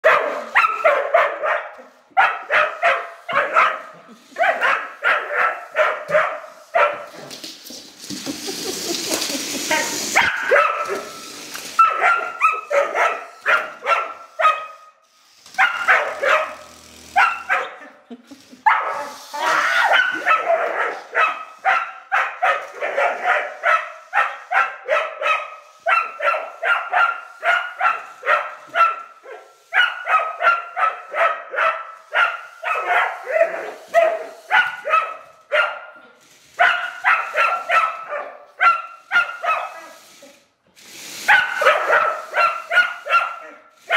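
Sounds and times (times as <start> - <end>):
dog barking: 0.0 - 7.2, 10.2 - 11.2, 11.8 - 14.9, 15.6 - 18.0, 18.6 - 36.0, 36.6 - 40.0, 41.3 - 43.9.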